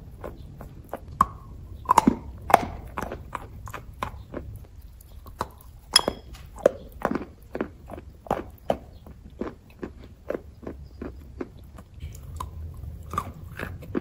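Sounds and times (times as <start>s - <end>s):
chalk crunching being chewed: 0.0s - 14.0s.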